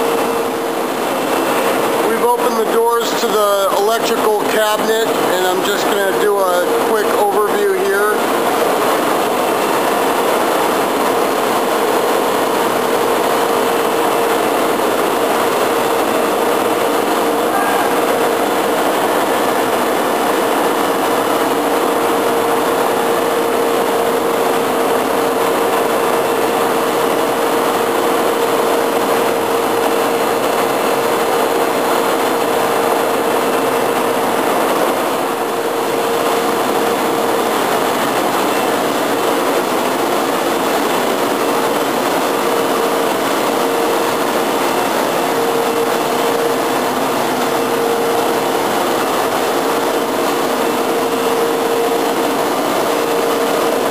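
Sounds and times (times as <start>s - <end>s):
machinery rushing: 0.0s - 53.9s
steady hum: 0.0s - 53.9s.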